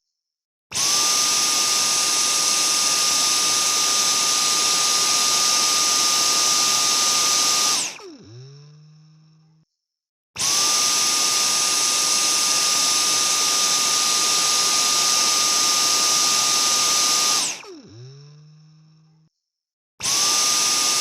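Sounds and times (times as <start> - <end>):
vacuum cleaner motor whining: 0.7 - 9.5, 10.4 - 19.1, 20.0 - 21.0.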